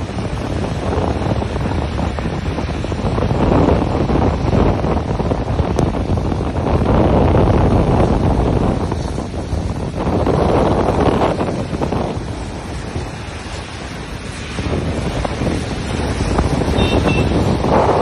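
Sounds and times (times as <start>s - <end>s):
sea surging: 0.0s - 18.0s
wind buffeting microphone: 0.0s - 18.0s.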